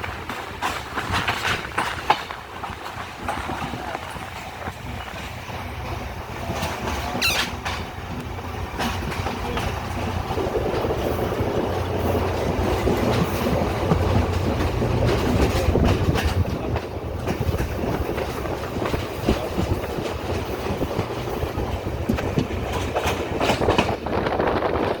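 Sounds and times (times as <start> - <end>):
train engine drone: 0.0 - 25.0
wheels clicking over rail joints: 0.0 - 25.0.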